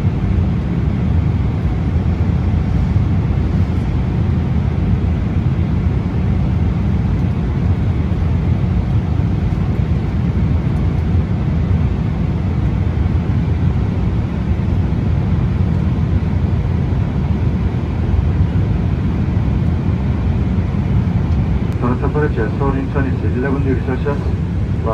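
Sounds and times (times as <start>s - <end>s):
airliner cabin rumble: 0.0s - 24.9s.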